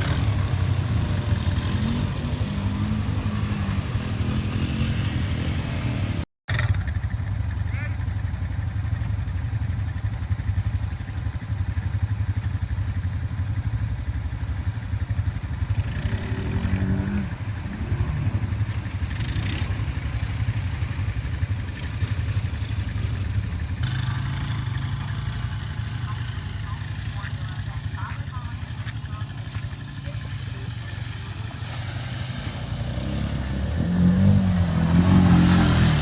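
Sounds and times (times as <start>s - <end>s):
engine chugging: 0.0s - 36.0s.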